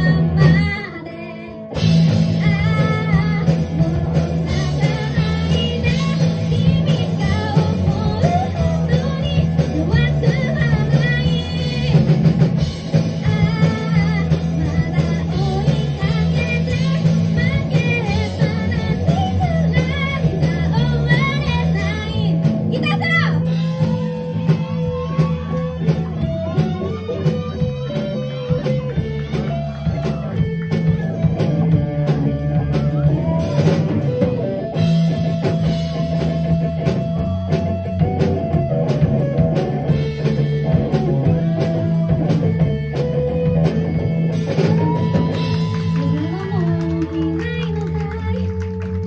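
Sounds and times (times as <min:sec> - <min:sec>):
rock band playing live: 0:00.0 - 0:49.0.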